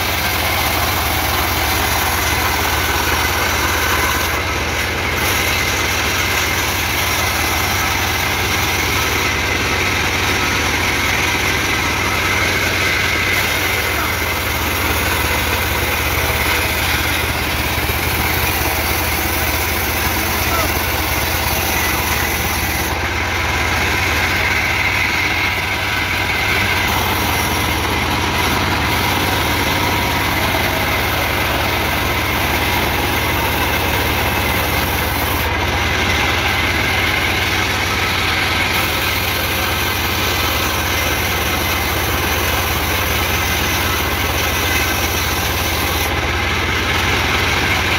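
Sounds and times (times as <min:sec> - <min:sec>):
band sawmill drone: 0:00.0 - 0:47.9
saw cutting wood: 0:00.0 - 0:47.9.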